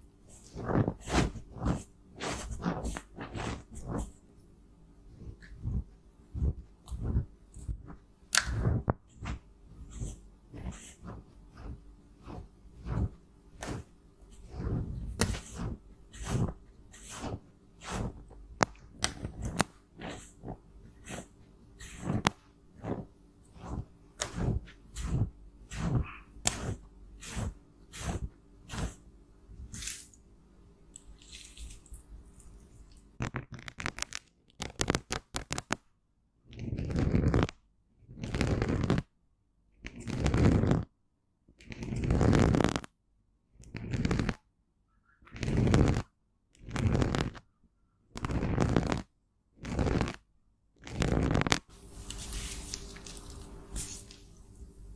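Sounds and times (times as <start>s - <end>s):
scraping squishing strokes: 0.0s - 4.4s, 5.0s - 30.2s, 30.9s - 35.8s, 36.5s - 39.1s, 39.8s - 40.9s, 43.7s - 44.4s, 45.2s - 47.4s, 48.1s - 50.2s, 50.8s - 54.9s.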